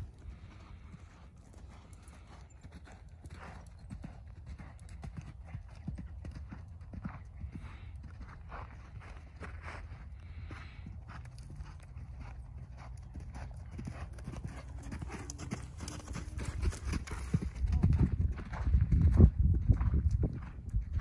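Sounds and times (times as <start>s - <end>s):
horse hooves cantering on sand: 0.0s - 21.0s.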